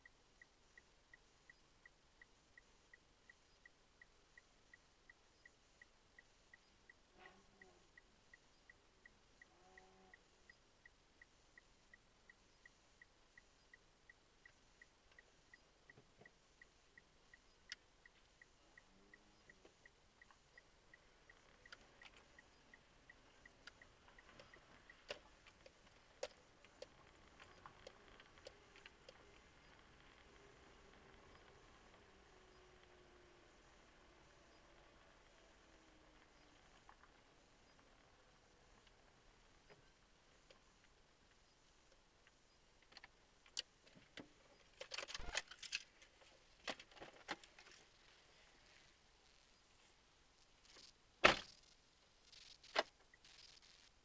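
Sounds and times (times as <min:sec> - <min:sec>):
turn signal clicking: 0:00.0 - 0:47.6.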